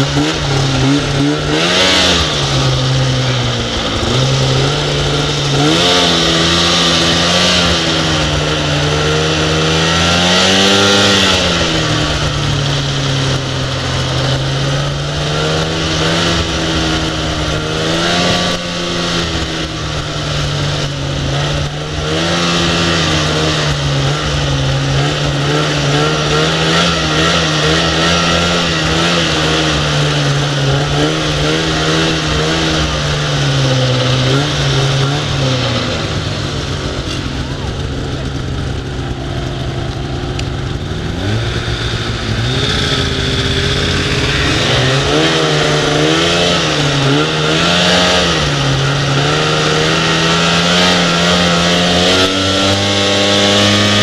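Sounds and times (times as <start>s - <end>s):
rush of wind and snow: 0.0s - 54.0s
snowmobile engine revving: 0.0s - 54.0s.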